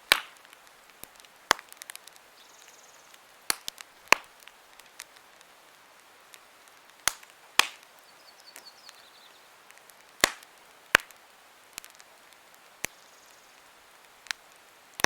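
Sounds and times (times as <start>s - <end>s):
low steady fire hiss: 0.0s - 15.0s
wood popping in campfire: 0.0s - 15.0s.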